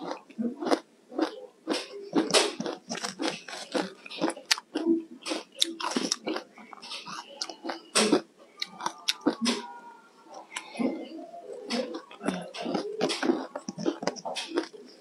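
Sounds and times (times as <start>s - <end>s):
ice crunching being chewed: 0.0s - 9.4s, 11.7s - 14.8s.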